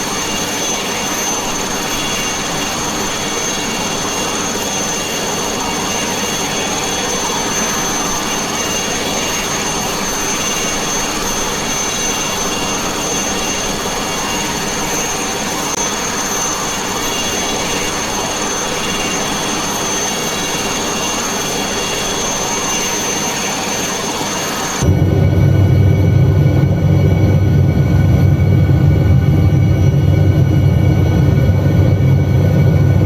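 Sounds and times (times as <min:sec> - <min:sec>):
helicopter engine and rotor: 0:00.0 - 0:33.0.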